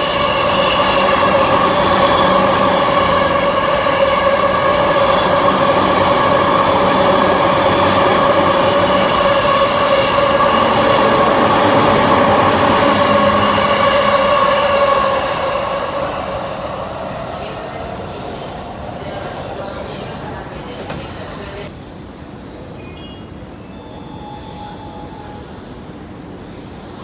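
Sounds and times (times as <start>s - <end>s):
electric train high-pitched whine: 0.0s - 21.7s
train wheels rumbling: 0.0s - 21.7s.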